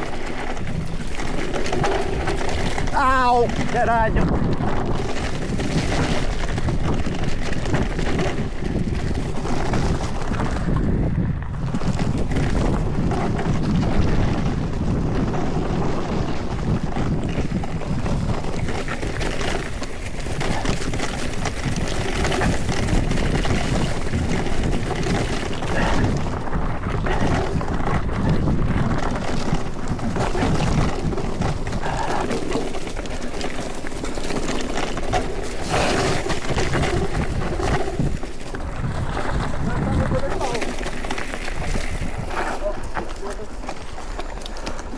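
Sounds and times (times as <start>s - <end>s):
bike rattling and knocking: 0.0s - 44.9s
tyres crunching over stones: 0.0s - 44.9s
wind buffeting microphone: 0.0s - 44.9s.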